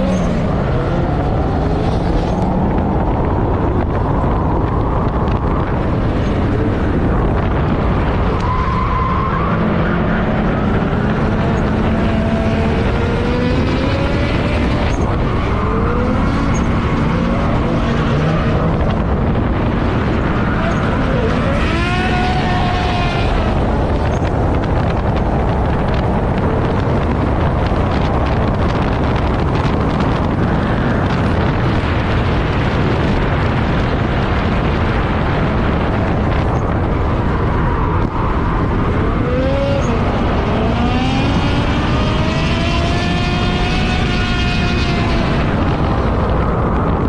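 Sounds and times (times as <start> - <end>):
car engines revving hard: 0.0 - 47.0
wind rushing over microphone: 0.0 - 47.0.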